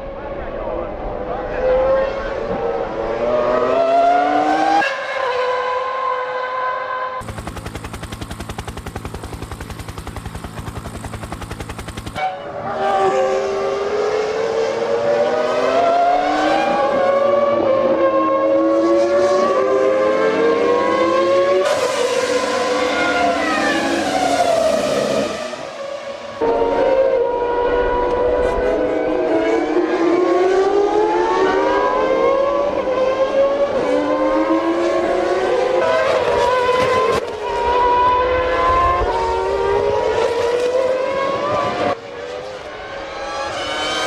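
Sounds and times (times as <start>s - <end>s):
racing car engines at high revs: 0.2s - 44.0s.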